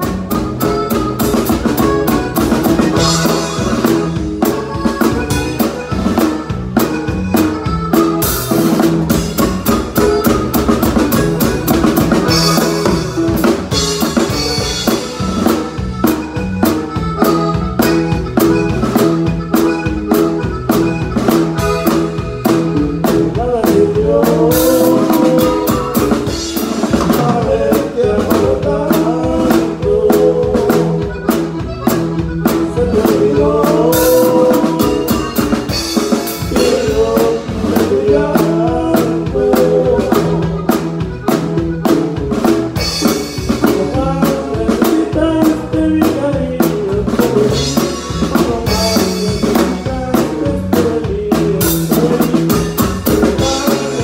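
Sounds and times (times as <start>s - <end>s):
band bass and chords: 0.0s - 54.0s
drum kit playing: 0.0s - 54.0s.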